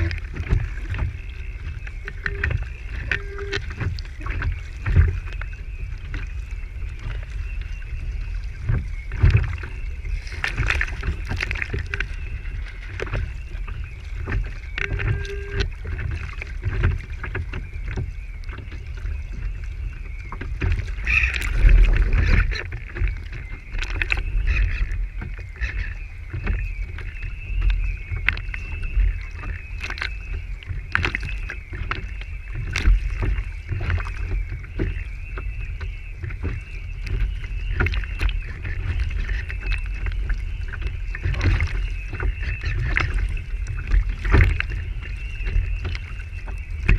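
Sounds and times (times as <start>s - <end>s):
water slapping against hull: 0.0s - 46.9s
wind rumble on microphone: 0.0s - 46.9s.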